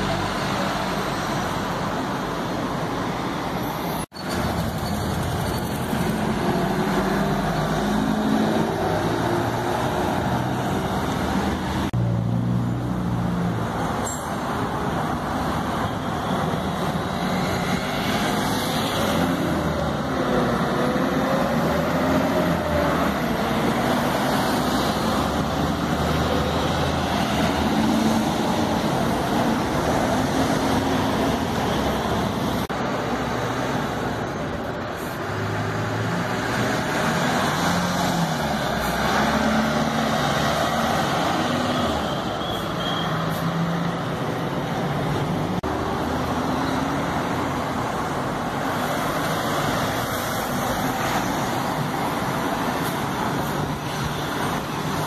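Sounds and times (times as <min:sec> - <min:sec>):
buses and cars driving past: 0:00.0 - 0:55.0
tyre and road noise: 0:00.0 - 0:55.0.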